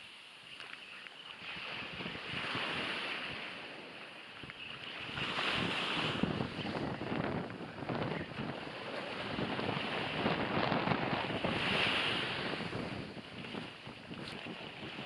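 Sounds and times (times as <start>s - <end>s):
surf washing onto shore: 0.0s - 15.0s
wind buffeting microphone: 1.4s - 15.0s.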